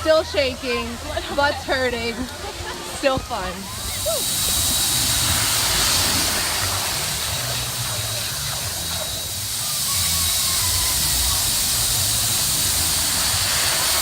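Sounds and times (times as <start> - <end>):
low wind rumble on microphone: 0.0 - 14.0
rushing spraying water: 0.0 - 14.0.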